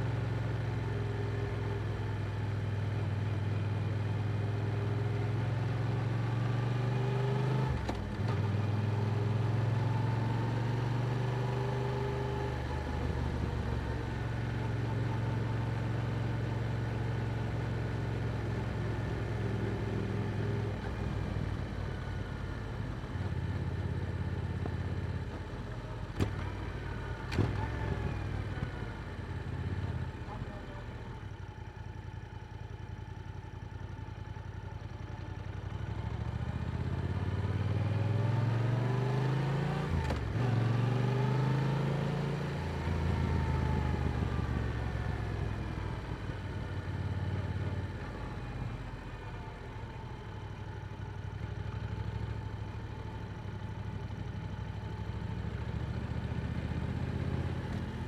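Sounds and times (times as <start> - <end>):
motorcycle engine accelerating: 4.7 - 31.2, 35.6 - 50.8, 51.5 - 58.0.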